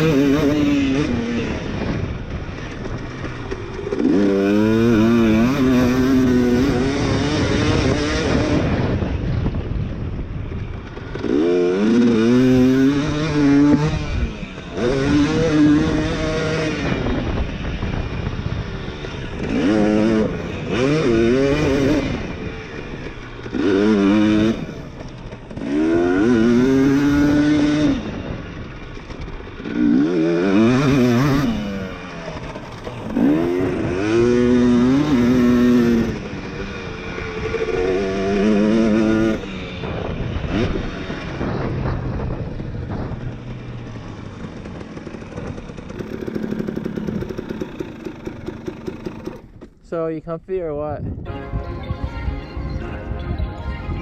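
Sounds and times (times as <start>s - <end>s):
two-stroke dirt bike engine revving: 0.0s - 50.0s.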